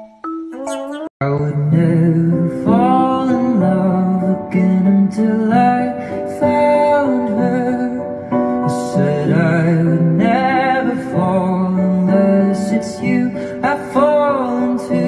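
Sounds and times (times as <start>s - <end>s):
slow song with singing voice: 0.0s - 15.0s.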